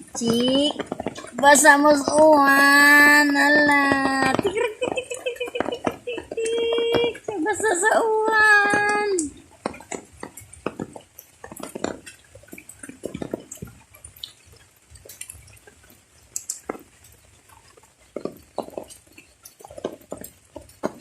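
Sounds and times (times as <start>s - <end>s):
rain dripping: 0.0s - 21.0s.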